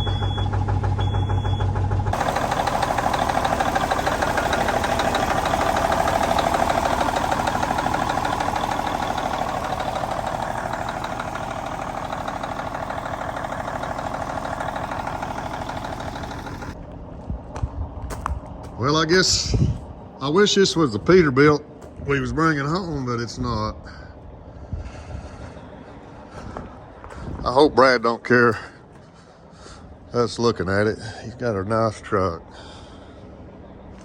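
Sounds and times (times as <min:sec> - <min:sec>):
truck diesel engine idling: 0:00.0 - 0:34.0.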